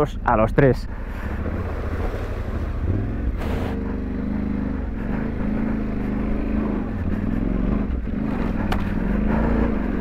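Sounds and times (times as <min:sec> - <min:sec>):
motorcycle engine revving: 0:00.9 - 0:10.0.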